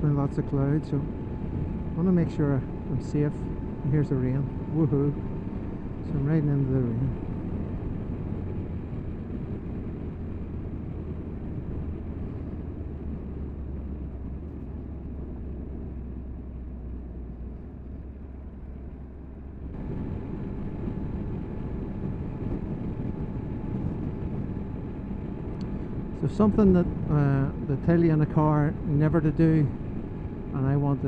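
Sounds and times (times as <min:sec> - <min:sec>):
wind noise: 0:00.0 - 0:18.2, 0:19.5 - 0:31.0
motorcycle engine droning: 0:00.0 - 0:31.0
thin steady whine: 0:00.0 - 0:31.0.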